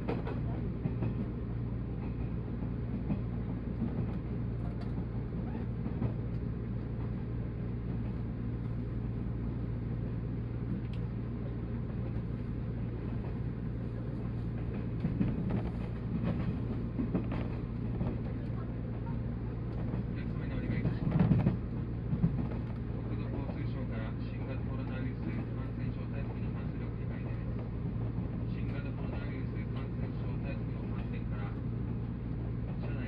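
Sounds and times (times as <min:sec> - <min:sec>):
train interior rumble and hum: 0:00.0 - 0:33.0.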